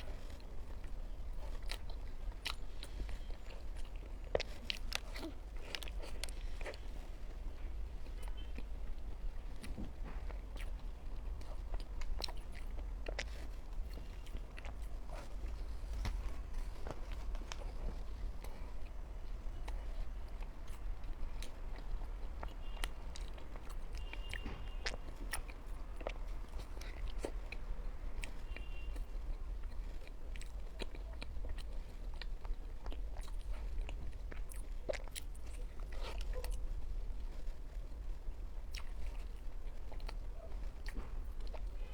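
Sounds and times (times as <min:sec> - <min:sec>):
chewing pastry crunches: 0:00.0 - 0:41.9.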